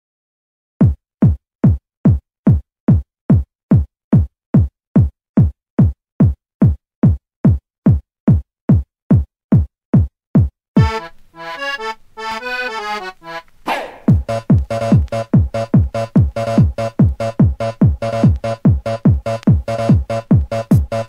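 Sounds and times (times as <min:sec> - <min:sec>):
electronic kick drum thumps: 0:00.8 - 0:11.0, 0:13.7 - 0:21.0.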